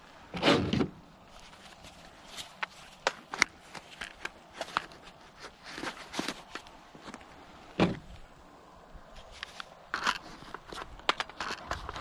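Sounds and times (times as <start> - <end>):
gloved hands handling gear: 1.2 - 8.2, 9.1 - 12.0.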